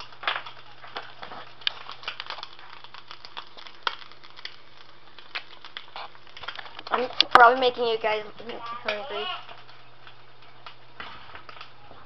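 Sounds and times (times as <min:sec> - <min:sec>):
egg frying in oil: 0:00.0 - 0:12.0.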